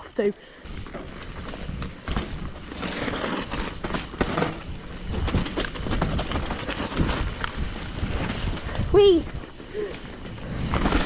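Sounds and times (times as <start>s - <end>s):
bike tyres on dirt: 0.0s - 11.0s
bike clattering over bumps: 0.7s - 11.0s.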